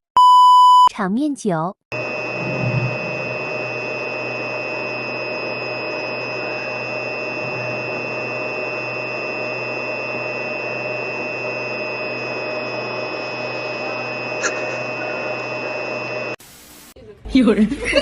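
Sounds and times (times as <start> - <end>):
constant humming tones: 2.0 - 16.4.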